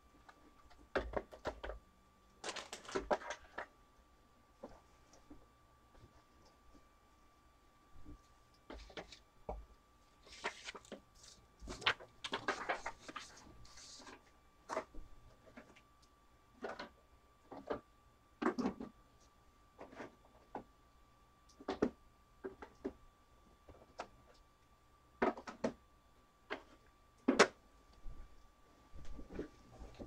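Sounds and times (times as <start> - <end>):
faint high-pitched hum: 0.0 - 30.0.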